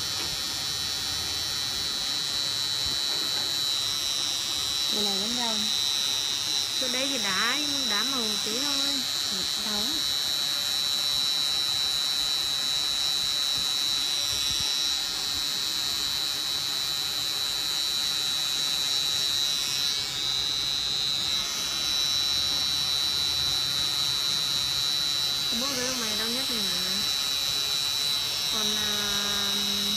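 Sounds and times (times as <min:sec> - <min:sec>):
tattoo machine whine: 0:00.0 - 0:29.9.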